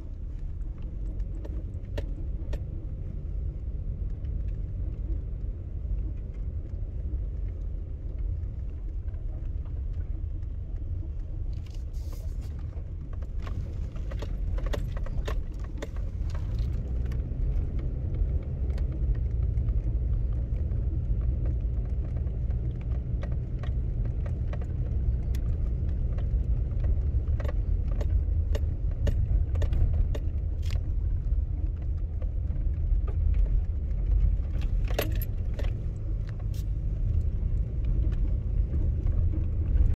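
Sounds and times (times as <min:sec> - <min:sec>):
car road and engine rumble: 0:00.0 - 0:40.0
light clicks and rattles: 0:00.2 - 0:40.0.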